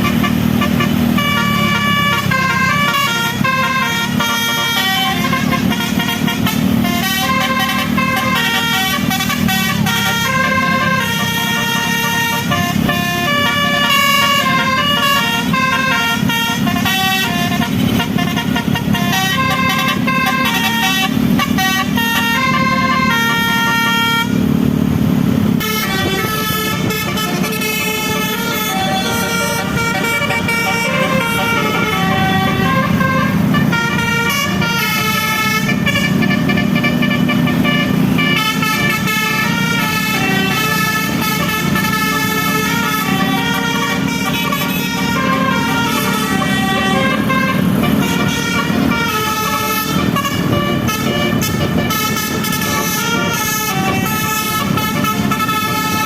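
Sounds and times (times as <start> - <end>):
musical bus horn melody: 0.0 - 24.8, 25.4 - 56.0
bus engine running: 0.0 - 56.0.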